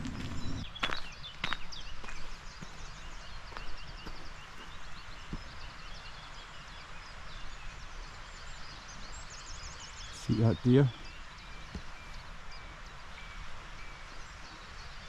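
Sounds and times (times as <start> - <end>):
songbirds singing: 0.0 - 15.0
steady outdoor hiss: 0.0 - 15.0.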